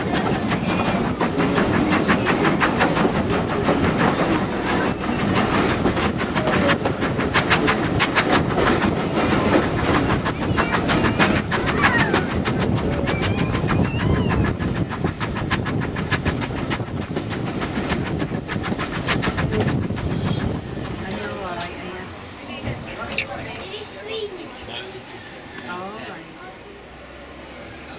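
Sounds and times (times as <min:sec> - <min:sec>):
train wheels clickety-clack: 0:00.0 - 0:26.6
train rumble: 0:00.0 - 0:27.9.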